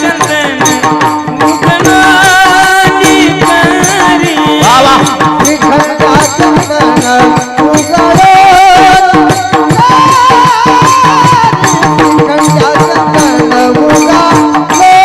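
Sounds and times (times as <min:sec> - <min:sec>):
hand drums and percussion: 0:00.0 - 0:15.0
person singing long ornamented notes: 0:00.0 - 0:15.0.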